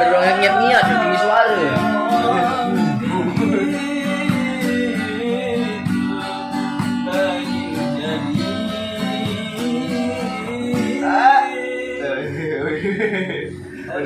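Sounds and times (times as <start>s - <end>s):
person singing: 0.0s - 12.7s
acoustic guitar playing: 0.0s - 13.7s.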